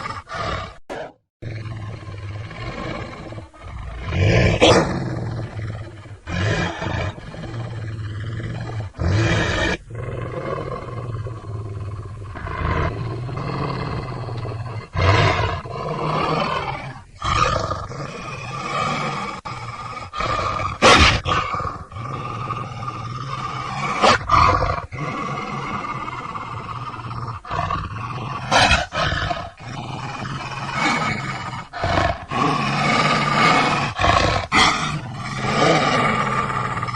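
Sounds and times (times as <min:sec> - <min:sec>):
roaring outbursts: 0:00.0 - 0:36.9.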